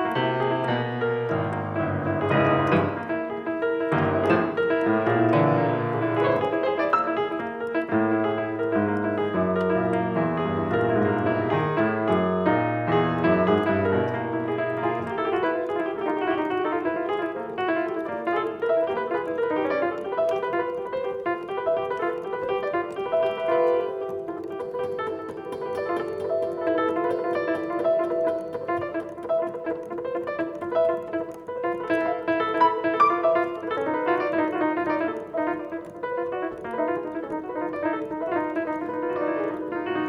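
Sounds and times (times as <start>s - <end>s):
piano playing: 0.0s - 40.0s.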